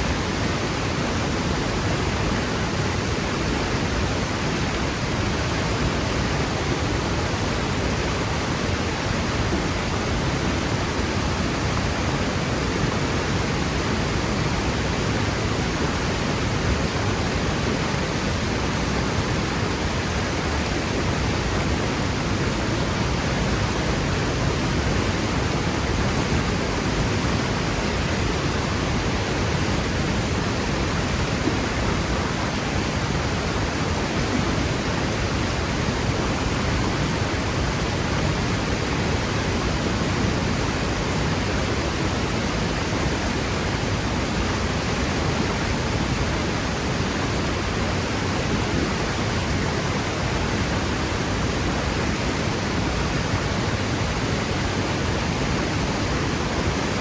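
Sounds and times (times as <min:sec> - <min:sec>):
waterfall crashing: 0:00.1 - 0:57.0.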